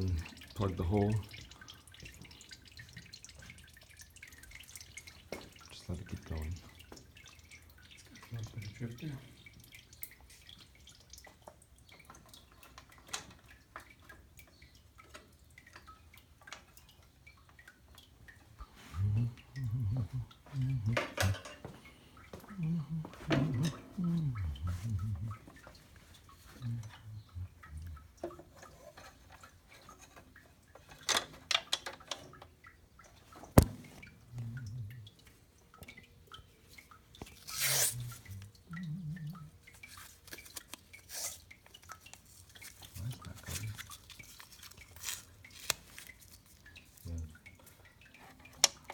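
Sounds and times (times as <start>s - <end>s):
oil dripping: 0.0s - 48.9s.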